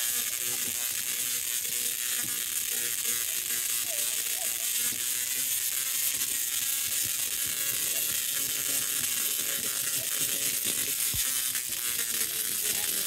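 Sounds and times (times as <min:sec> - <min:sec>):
tesla coil buzzing and crackling: 0:00.0 - 0:13.0.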